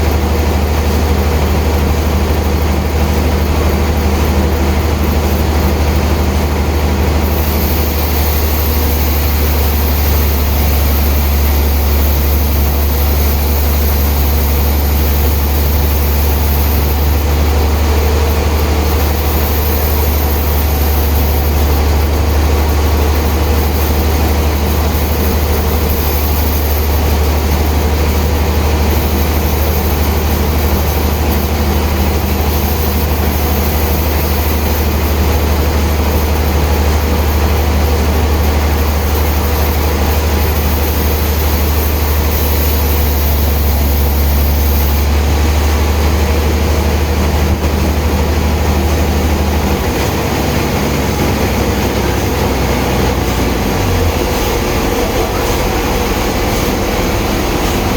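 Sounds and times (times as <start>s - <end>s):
sawmill machinery running: 0.0s - 57.9s
strong low hum: 0.0s - 57.9s.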